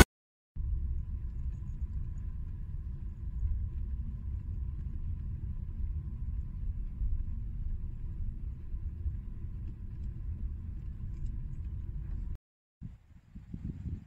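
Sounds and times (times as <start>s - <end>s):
car interior engine and tyre rumble: 0.6s - 12.4s.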